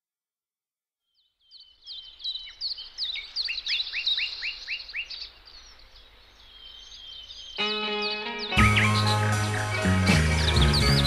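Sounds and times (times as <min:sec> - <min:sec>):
bird chirps and trills: 0:01.1 - 0:11.0.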